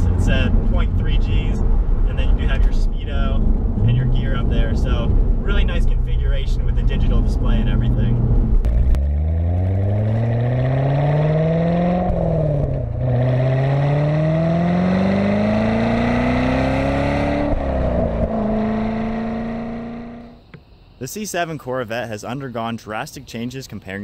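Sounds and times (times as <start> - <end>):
car engine accelerating hard: 0.0 - 20.4.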